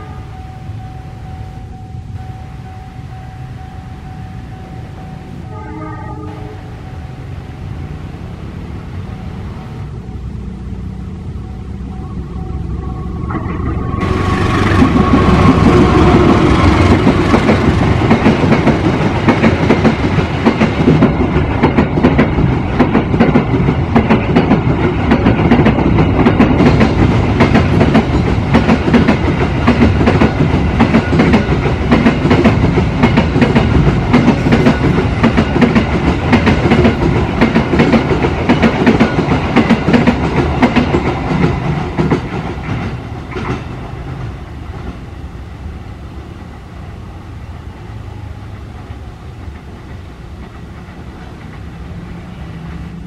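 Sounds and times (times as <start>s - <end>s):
freight train rolling past: 0.0s - 53.0s.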